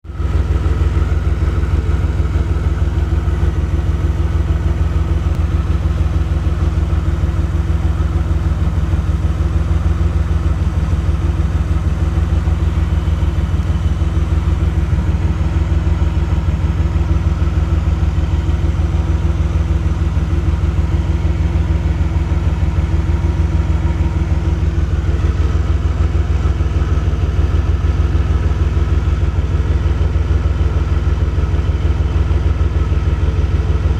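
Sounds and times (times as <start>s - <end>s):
car engine idling roughly: 0.0s - 33.9s.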